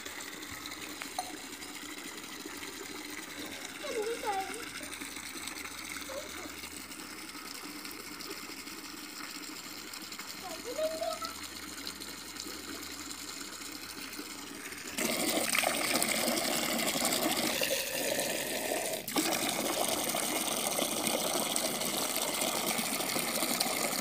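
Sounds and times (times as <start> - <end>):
water splashing into a pot: 0.0 - 24.0.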